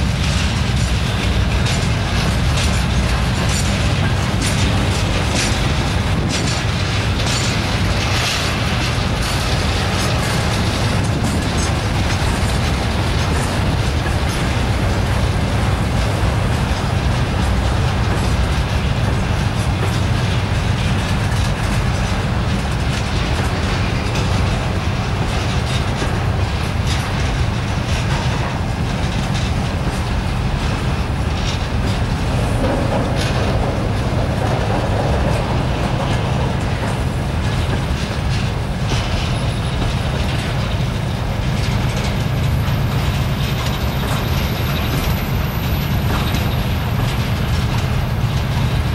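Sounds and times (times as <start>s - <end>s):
rail joint clicks: 0.0s - 48.9s
train wheels rumbling on rails: 0.0s - 48.9s.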